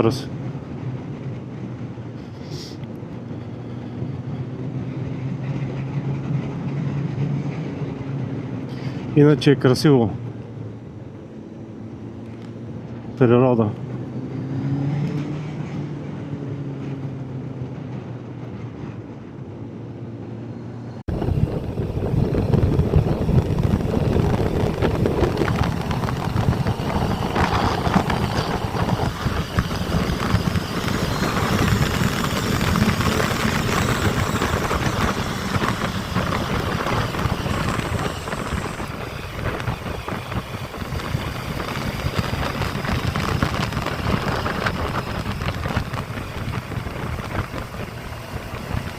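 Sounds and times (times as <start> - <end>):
motorcycle engine hum: 0.0 - 48.9
wind rushing over microphone: 0.0 - 48.9.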